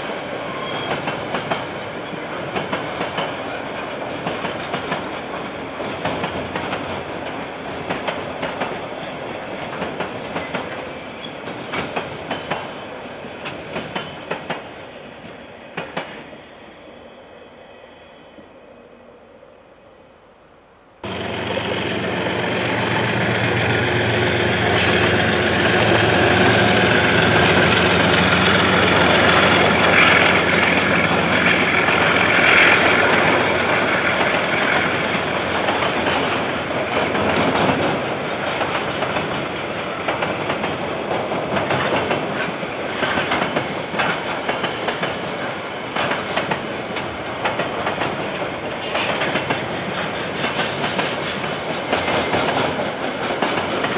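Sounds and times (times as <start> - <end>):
diesel locomotive engine hum: 0.0 - 53.9
train wheels clacking over rail joints: 0.5 - 12.8, 13.4 - 14.7, 21.2 - 53.9.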